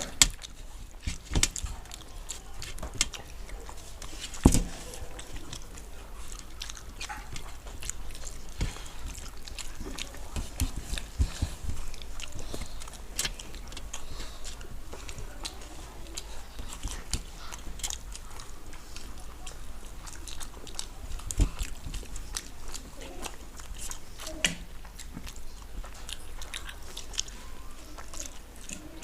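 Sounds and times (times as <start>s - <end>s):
chewing and wet mouth smacks: 0.0s - 29.0s.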